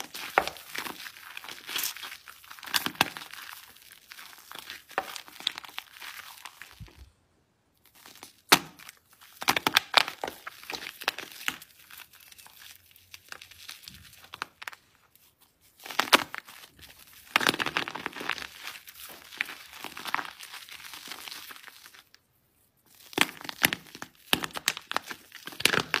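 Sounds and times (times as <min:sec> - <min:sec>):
sharp soap cracks: 0:00.0 - 0:06.9, 0:07.9 - 0:14.8, 0:15.8 - 0:21.9, 0:23.0 - 0:26.0
wet soap crushing and squishing: 0:00.0 - 0:26.0.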